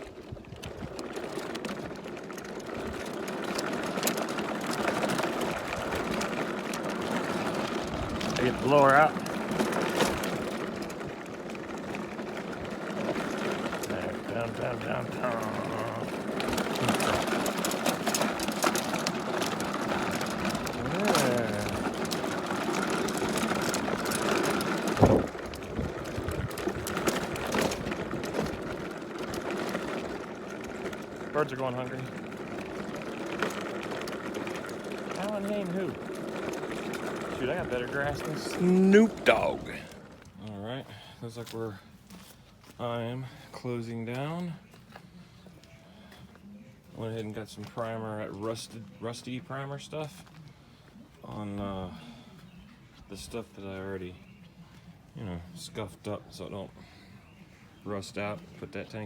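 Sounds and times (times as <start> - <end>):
small gasoline engine running: 0.0 - 42.4, 47.0 - 59.0.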